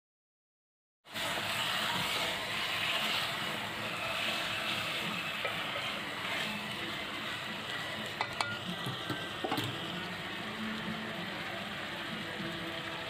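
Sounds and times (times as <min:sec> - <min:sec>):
chicken sizzling in a pot: 0:01.1 - 0:13.0.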